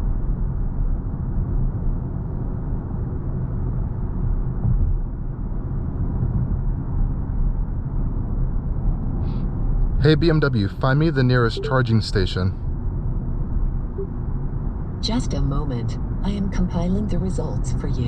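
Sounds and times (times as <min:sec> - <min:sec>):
road and tyre rumble in car: 0:00.0 - 0:18.0.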